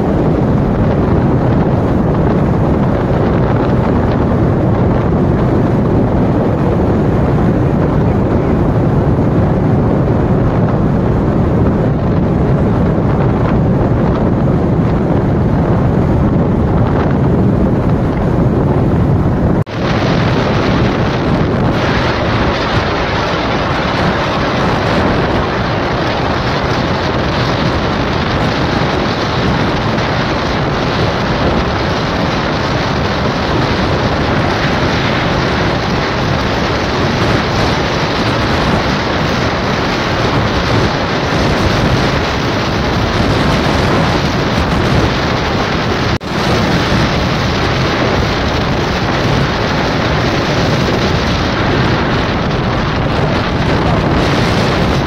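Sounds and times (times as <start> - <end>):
vehicle road noise: 0.0 - 55.0
wind buffeting microphone: 0.0 - 55.0.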